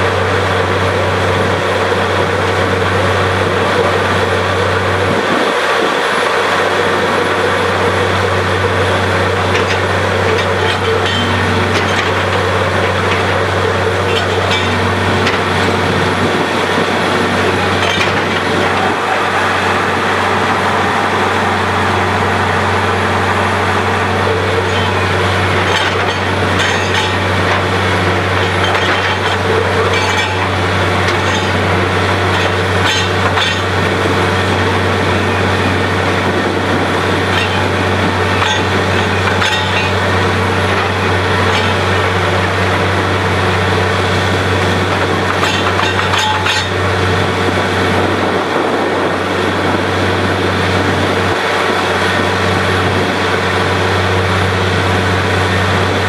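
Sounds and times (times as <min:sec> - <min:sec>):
loud grinding noise: 0:00.0 - 0:56.0
low engine hum: 0:00.0 - 0:56.0.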